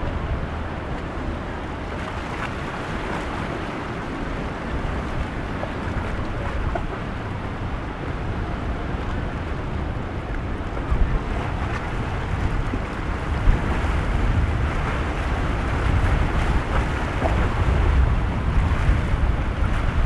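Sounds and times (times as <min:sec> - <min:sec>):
outboard engines running: 0:00.0 - 0:20.0
waves breaking: 0:00.0 - 0:20.0
wind buffeting microphone: 0:00.0 - 0:20.0.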